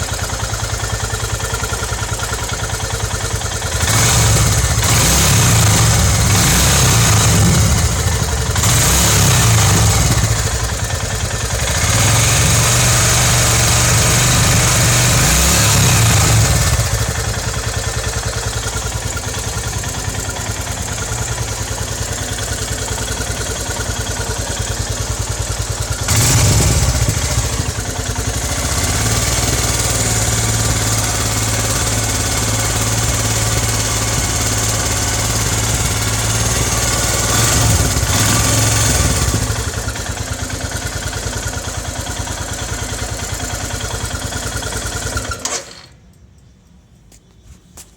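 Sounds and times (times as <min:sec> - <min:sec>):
motorcycle engine idling: 0:00.0 - 0:47.8.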